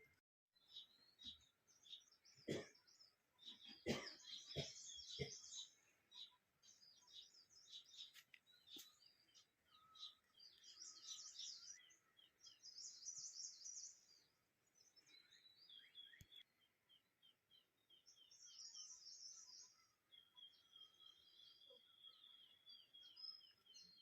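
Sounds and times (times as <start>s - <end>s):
small birds chirping and twittering: 0.0s - 24.0s.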